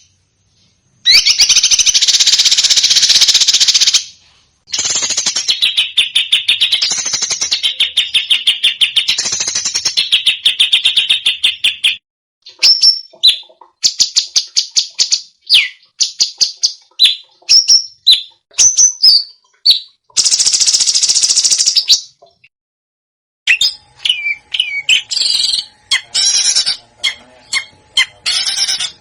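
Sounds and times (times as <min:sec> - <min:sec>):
songbird trilling and whistling: 0:01.0 - 0:04.1, 0:04.7 - 0:22.2, 0:23.5 - 0:29.0.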